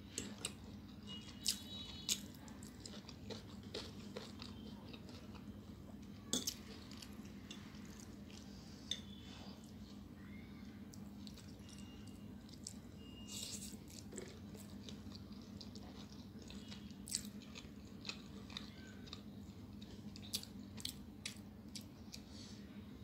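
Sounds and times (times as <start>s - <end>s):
person chewing noodles: 0.0s - 9.8s, 11.0s - 22.3s
low steady hum: 0.0s - 23.0s.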